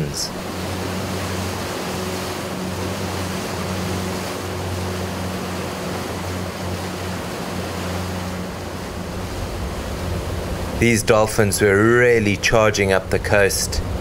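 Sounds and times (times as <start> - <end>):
motorboat engine hum: 0.0 - 14.0
water rushing against hull: 0.0 - 14.0.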